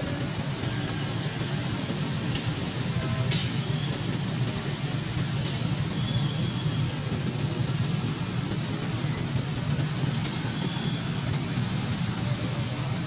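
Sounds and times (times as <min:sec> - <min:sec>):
scooter and motorcycle engines: 0:00.0 - 0:13.0.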